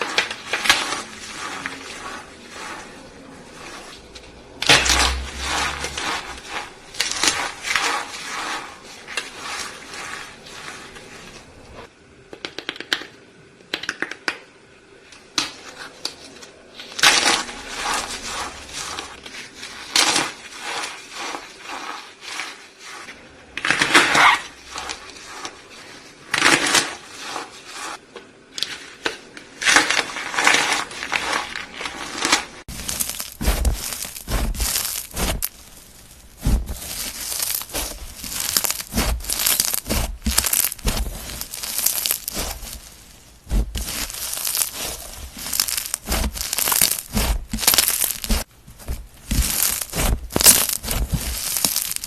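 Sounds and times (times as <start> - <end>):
crunchy slime crackling: 0.0 - 11.9, 16.8 - 28.0, 29.6 - 52.0.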